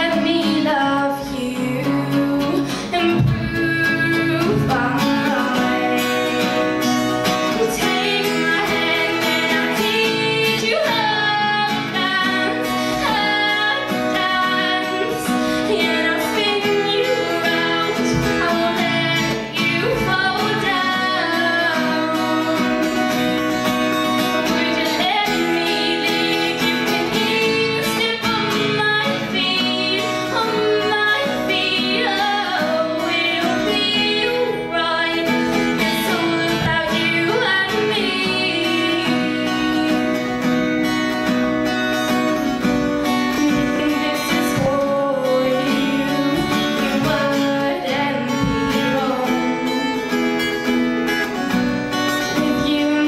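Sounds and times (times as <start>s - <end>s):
acoustic guitar: 0.0s - 53.0s
woman singing into microphone: 0.0s - 53.0s.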